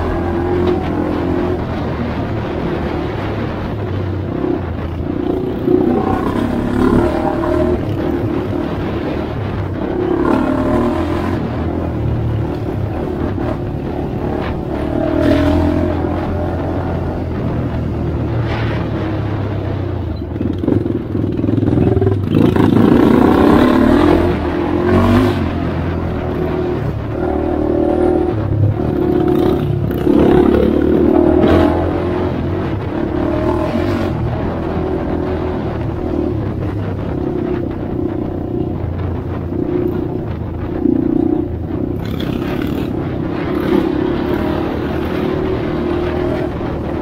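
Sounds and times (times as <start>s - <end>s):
atv engine revving: 0.0s - 47.0s.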